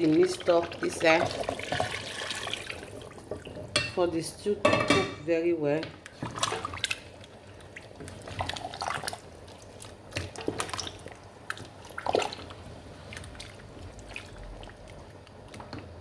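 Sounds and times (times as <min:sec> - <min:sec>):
stew sloshing in metal pot: 0:00.0 - 0:03.8, 0:06.1 - 0:15.8.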